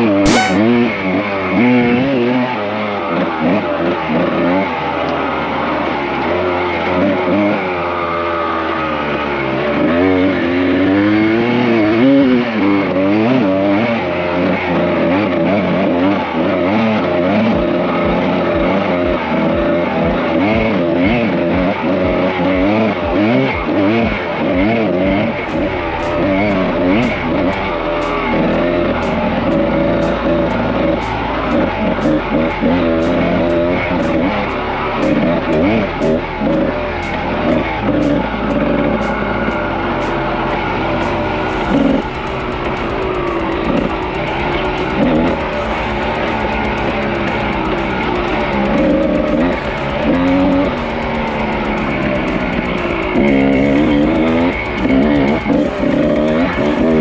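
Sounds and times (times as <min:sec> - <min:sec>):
dirt bike engine revving: 0:00.0 - 0:00.6, 0:05.6 - 0:57.0.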